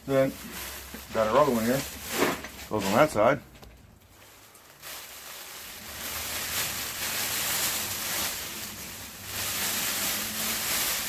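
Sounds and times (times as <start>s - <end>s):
mylar sheet rustling and crinkling: 0.0s - 11.0s.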